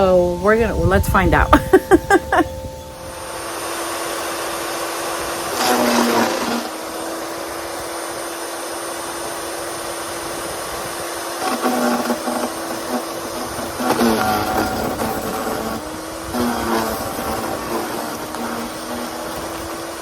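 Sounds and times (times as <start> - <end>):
electric wood chipper running: 2.8 - 20.0.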